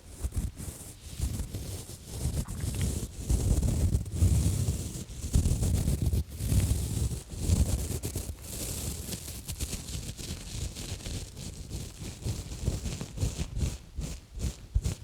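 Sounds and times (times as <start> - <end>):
gloves scratching on microphone: 0.0 - 15.0.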